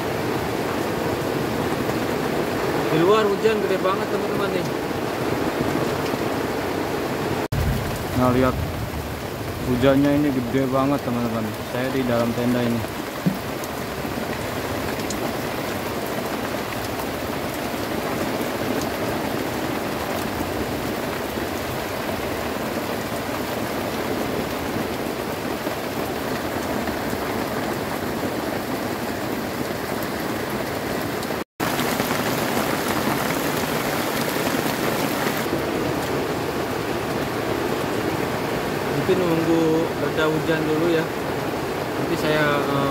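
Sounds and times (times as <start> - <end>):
heavy rain on a tent: 0.0 - 42.9.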